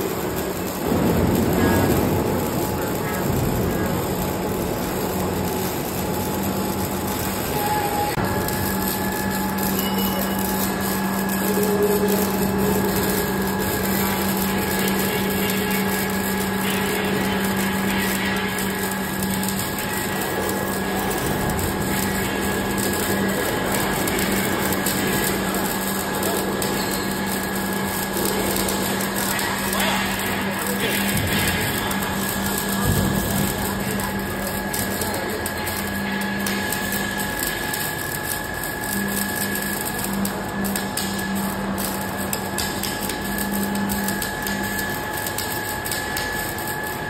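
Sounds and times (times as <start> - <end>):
welding arc crackling: 0.0 - 47.0
welding machine humming: 0.0 - 47.0.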